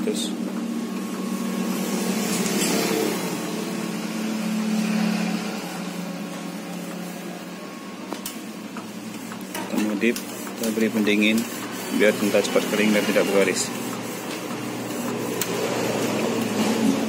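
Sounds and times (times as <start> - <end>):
inkjet printer humming: 0.0 - 17.0.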